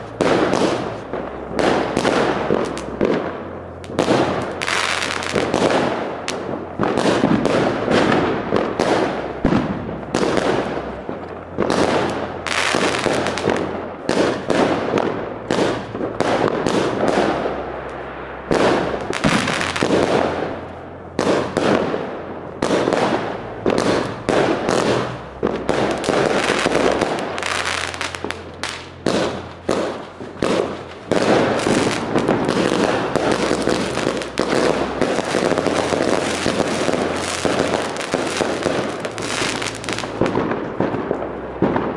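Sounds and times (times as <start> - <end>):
firework aerial bursts: 0.0 - 41.9
firework launches: 0.0 - 41.9.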